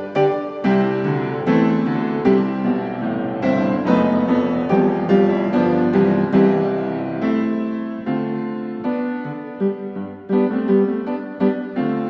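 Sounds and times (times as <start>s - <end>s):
piano-like keyboard music: 0.0s - 12.0s.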